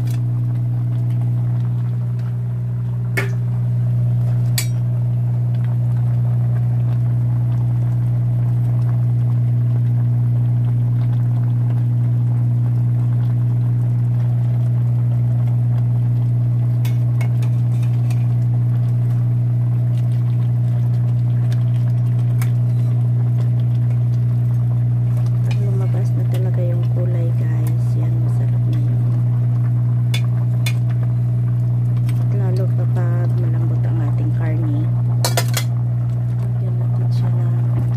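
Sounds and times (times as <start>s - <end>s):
appliance electrical hum: 0.0s - 37.9s.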